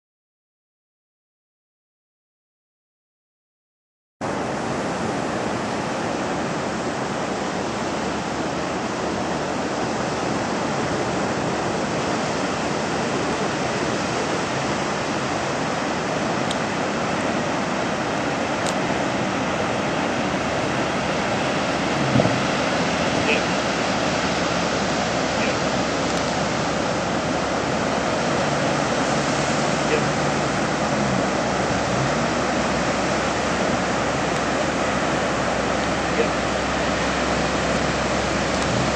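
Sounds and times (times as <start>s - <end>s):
surf breaking on beach: 4.2s - 38.9s.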